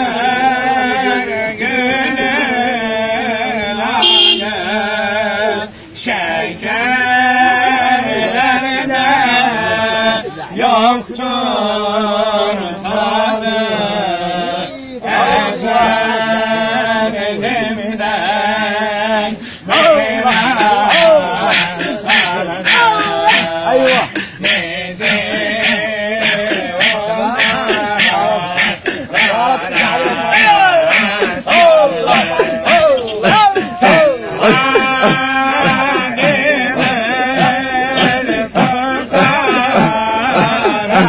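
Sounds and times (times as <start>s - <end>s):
man singing ornate phrases: 0.0s - 41.0s
men chanting a hymn: 0.0s - 41.0s.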